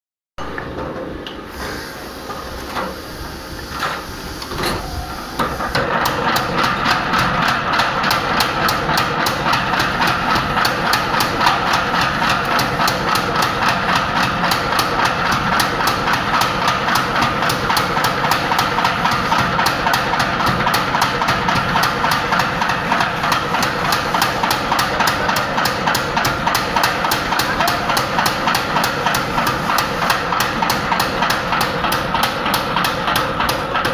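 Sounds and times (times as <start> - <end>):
power hammer striking steel: 5.4 - 33.9.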